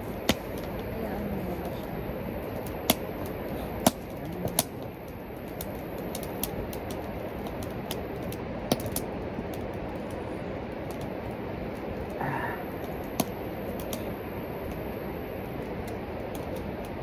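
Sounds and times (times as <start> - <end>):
campfire crackling and popping: 0.0 - 17.0
fire hiss: 0.0 - 17.0.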